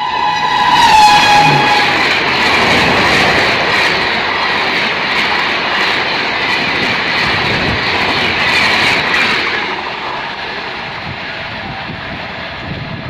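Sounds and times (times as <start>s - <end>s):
train coaches rushing past: 0.0s - 13.0s.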